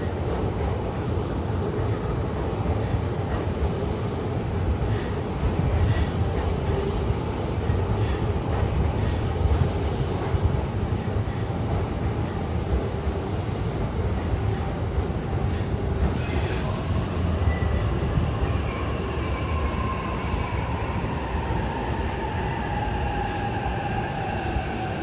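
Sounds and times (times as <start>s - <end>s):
train equipment rumble and hum: 0.0s - 25.0s.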